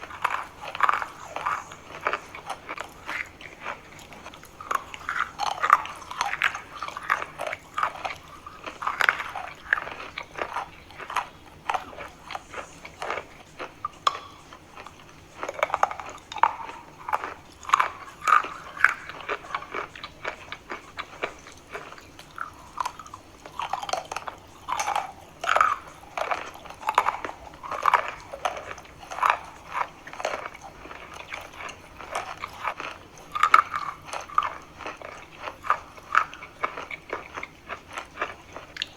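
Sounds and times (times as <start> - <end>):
person chewing chalk: 0.0 - 38.9.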